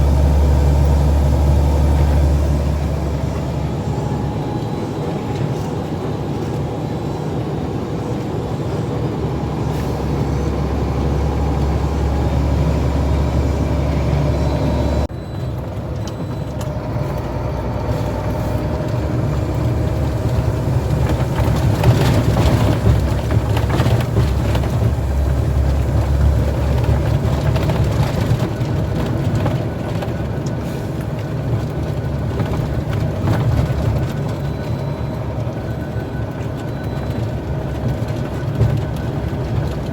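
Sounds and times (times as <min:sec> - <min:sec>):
heavy truck engine running: 0:00.0 - 0:39.9
road rumble: 0:00.0 - 0:39.9.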